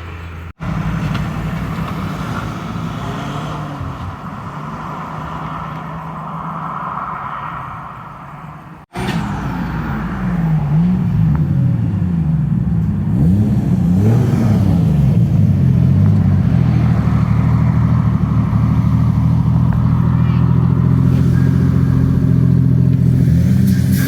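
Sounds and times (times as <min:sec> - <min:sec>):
car engine revving: 0:00.1 - 0:24.0.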